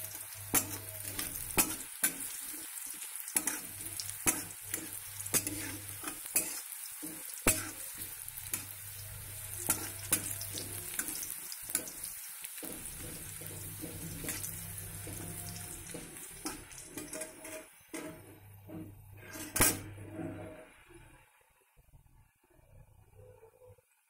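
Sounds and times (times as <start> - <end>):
steel spoon scraping a wok: 0.0 - 21.2
food sizzling in a wok: 0.0 - 21.9.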